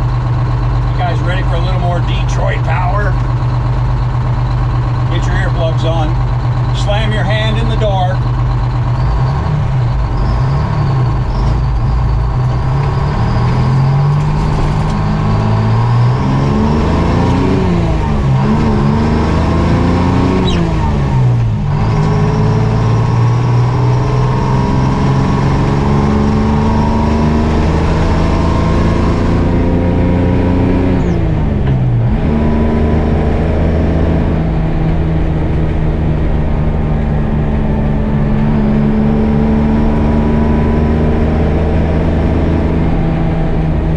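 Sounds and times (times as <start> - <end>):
diesel truck engine pulling hard: 0.0 - 43.9.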